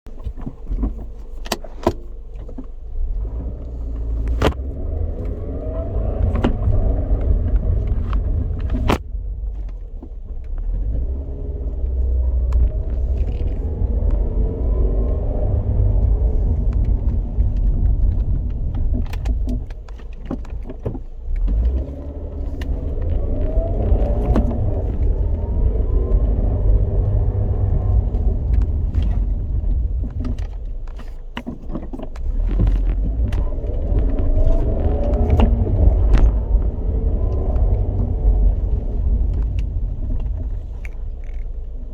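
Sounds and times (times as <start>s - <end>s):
low rumble: 0.0s - 41.9s
car grinding noise: 0.1s - 41.9s.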